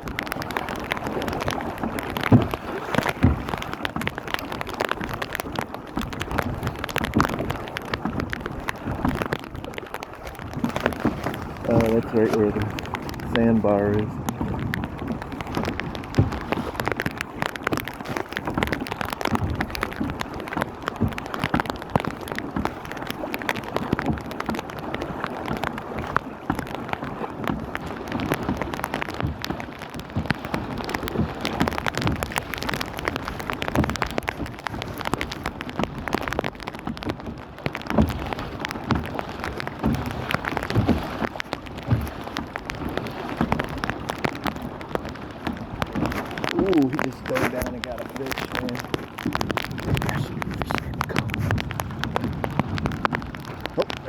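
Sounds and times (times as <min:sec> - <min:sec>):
steady rain hiss: 0:00.0 - 0:25.0, 0:26.4 - 0:54.0
raindrops tapping: 0:00.0 - 0:54.0.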